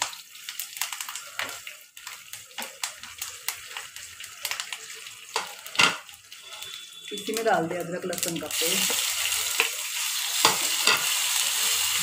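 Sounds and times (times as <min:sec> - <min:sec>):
spices sizzling and popping in oil: 0:00.0 - 0:12.0.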